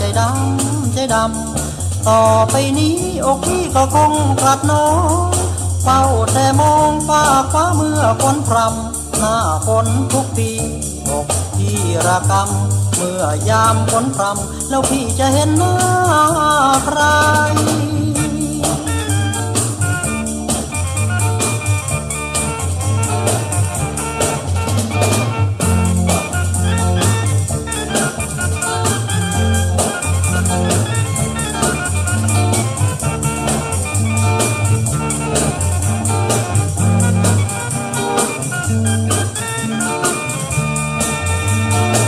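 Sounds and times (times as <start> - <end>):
band playing: 0.0 - 42.0
drum kit steady beat: 0.0 - 42.0
walking bass line: 0.0 - 42.0.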